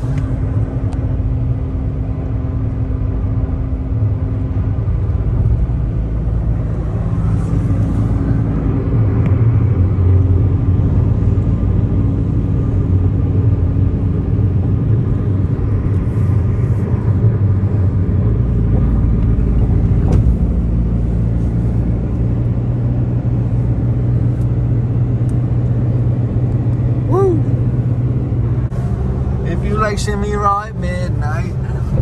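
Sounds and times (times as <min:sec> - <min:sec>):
car road and engine drone: 0:00.0 - 0:32.0.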